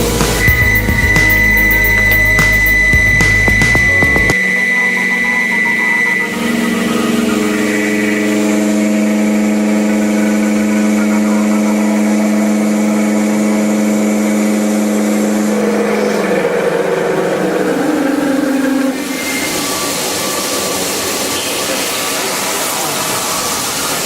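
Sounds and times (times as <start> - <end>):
milling machine whining: 0.0 - 24.0.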